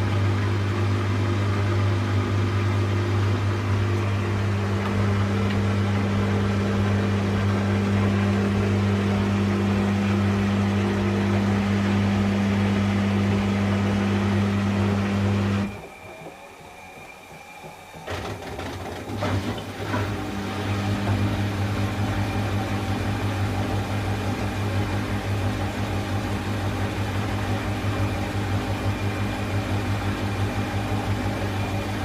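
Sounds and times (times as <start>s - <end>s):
machine hum with two tones: 0.0s - 32.0s.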